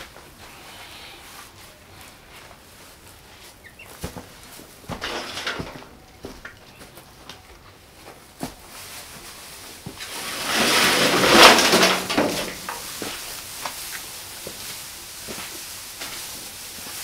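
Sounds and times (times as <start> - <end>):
dry straw rustling: 0.0 - 17.0.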